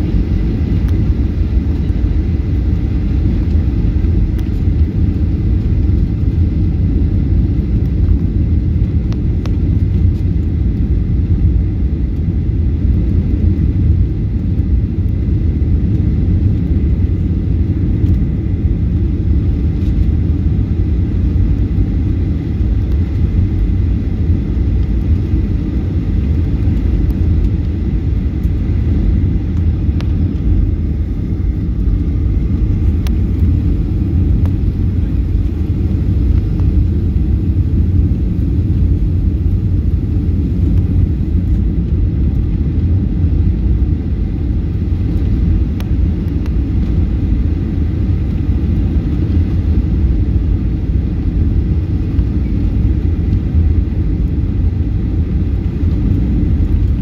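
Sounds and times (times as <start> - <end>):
airplane engine and airflow rumble: 0.0 - 57.0
faint steady whine: 0.0 - 57.0.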